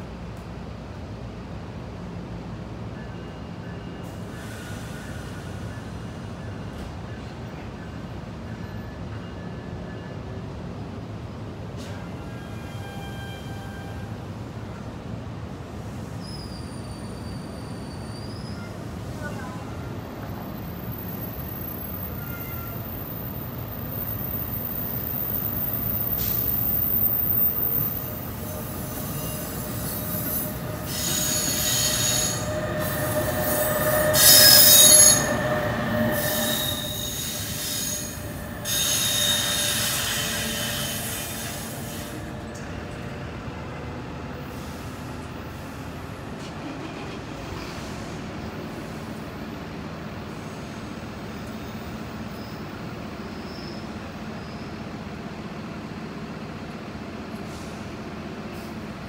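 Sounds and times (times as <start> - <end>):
low train rumble: 0.0 - 59.0
train wheels squealing on rails: 2.6 - 10.8, 11.6 - 15.0, 15.7 - 59.0.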